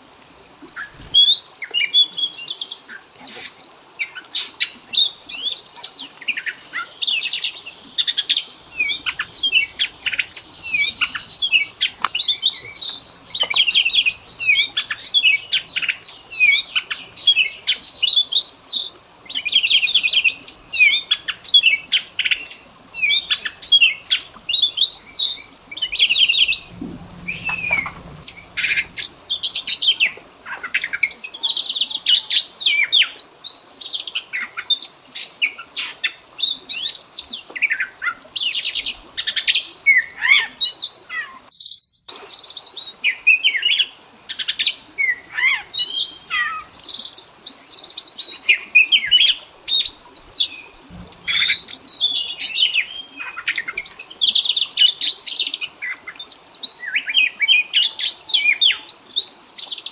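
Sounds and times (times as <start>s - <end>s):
songbirds chirping and whistling: 0.7s - 34.6s, 36.3s - 59.9s.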